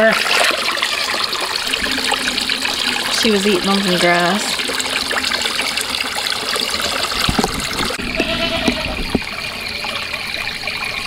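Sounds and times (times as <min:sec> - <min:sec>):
water trickling into trough: 0:00.0 - 0:11.0.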